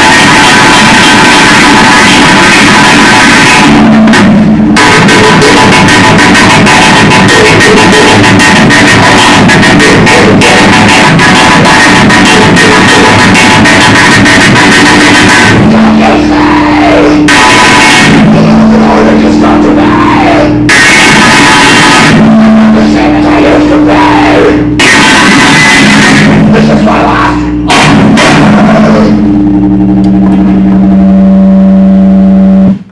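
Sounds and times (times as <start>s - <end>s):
low drone: 0.0s - 32.7s
harsh noise blasts: 0.0s - 32.9s.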